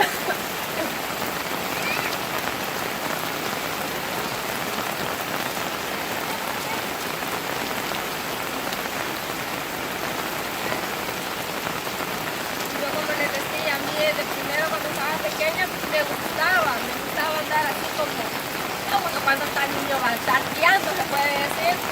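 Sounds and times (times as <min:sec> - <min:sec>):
rain falling and splashing: 0:00.0 - 0:21.9.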